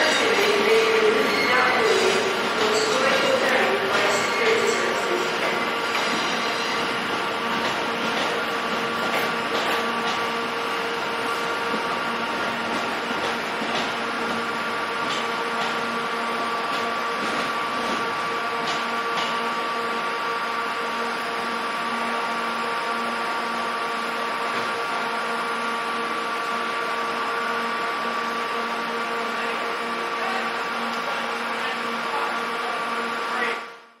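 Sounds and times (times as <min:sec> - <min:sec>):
train carriage running hum: 0:00.0 - 0:34.0.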